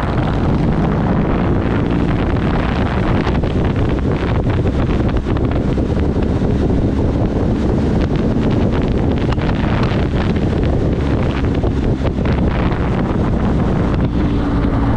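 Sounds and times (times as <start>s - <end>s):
low rumble: 0.0s - 14.9s
wind buffeting microphone: 0.0s - 14.9s.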